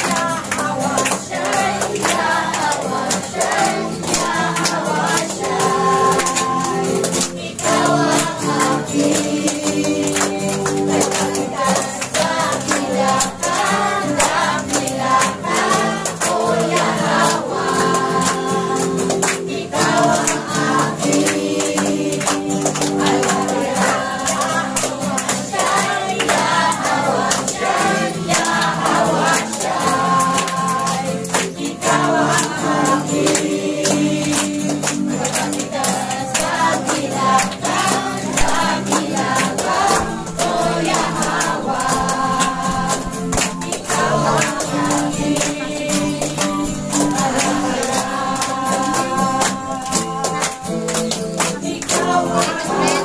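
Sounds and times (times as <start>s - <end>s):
congregation singing over music: 0.0s - 53.0s.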